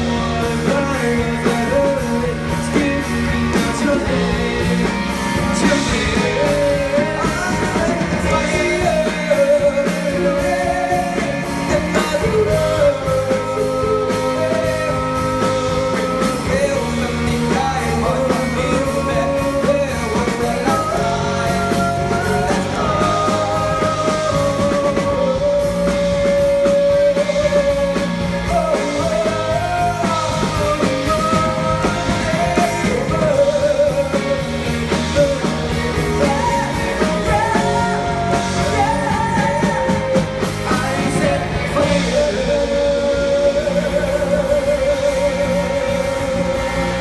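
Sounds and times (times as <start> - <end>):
band accompaniment with drums: 0.0 - 47.0
person singing with vibrato: 0.0 - 47.0.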